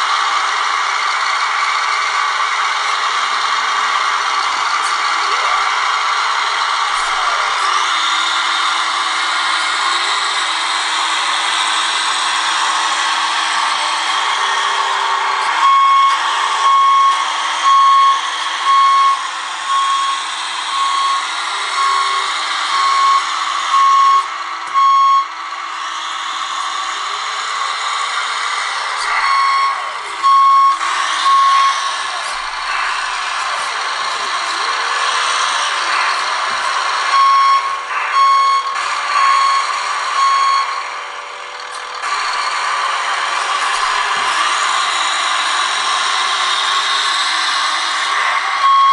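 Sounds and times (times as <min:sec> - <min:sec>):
reversing beeper: 0:04.4 - 0:48.9.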